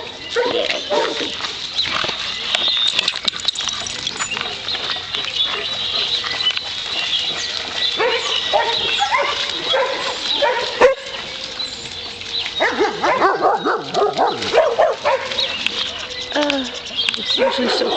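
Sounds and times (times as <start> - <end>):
dogs barking: 0.0 - 1.4, 2.9 - 11.6, 12.5 - 17.9.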